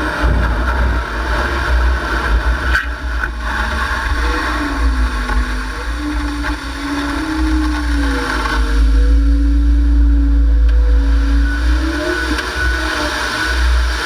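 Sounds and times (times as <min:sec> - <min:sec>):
heavy low rumble: 0:00.0 - 0:14.0
vehicle engine under load: 0:00.0 - 0:14.0.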